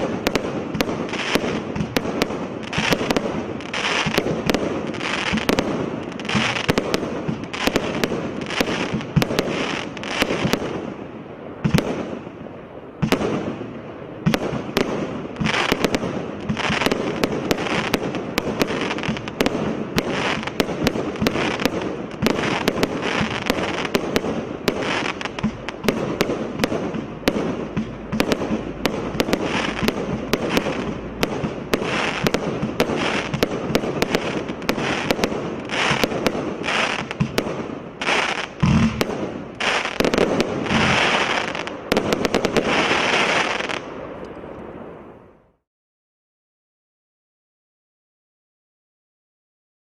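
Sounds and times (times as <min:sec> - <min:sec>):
firework pops and crackles: 0:00.0 - 0:10.8, 0:11.6 - 0:12.2, 0:13.0 - 0:13.6, 0:14.2 - 0:44.6.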